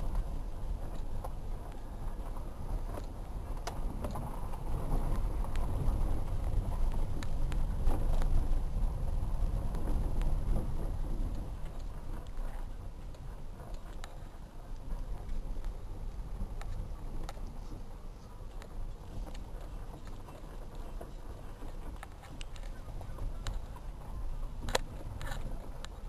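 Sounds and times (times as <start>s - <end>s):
car driving rumble: 0.0s - 26.0s
clicks and knocks from rough road: 0.0s - 26.0s.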